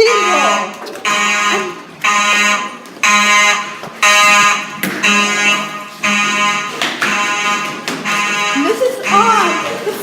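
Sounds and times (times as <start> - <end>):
fire alarm horn buzzing: 0.0 - 10.0.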